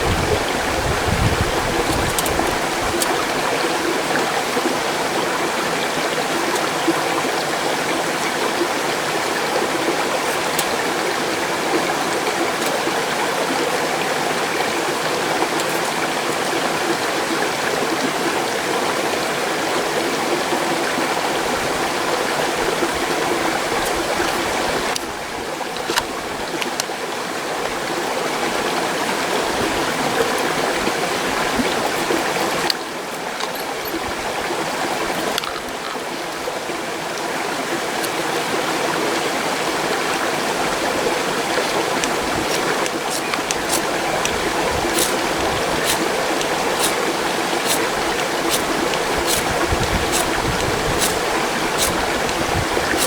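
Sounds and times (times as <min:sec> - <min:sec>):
mountain stream rushing: 0:00.0 - 0:53.0.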